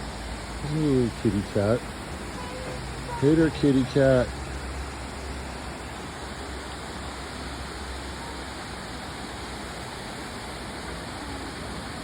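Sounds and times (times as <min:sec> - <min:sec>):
rushing falling water: 0:00.0 - 0:12.0.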